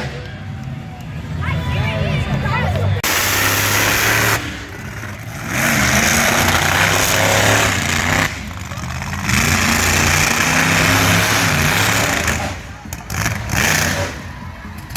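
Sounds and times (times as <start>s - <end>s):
truck engine running hard: 0.0s - 14.9s.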